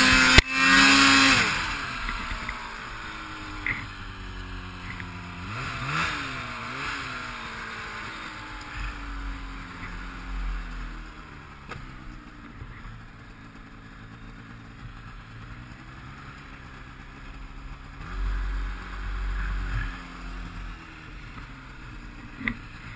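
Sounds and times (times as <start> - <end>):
snowmobile engine revving: 0.0 - 22.9.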